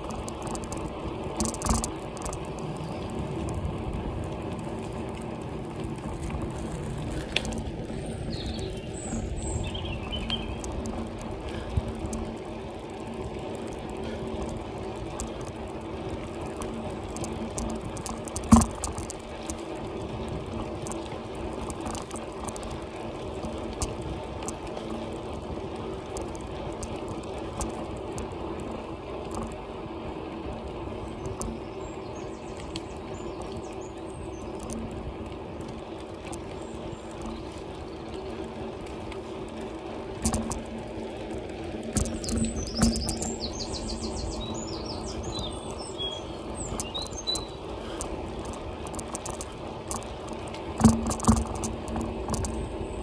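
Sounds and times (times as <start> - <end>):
bicycle tyre and drivetrain noise: 0.0 - 53.0
small ticks: 0.0 - 53.0.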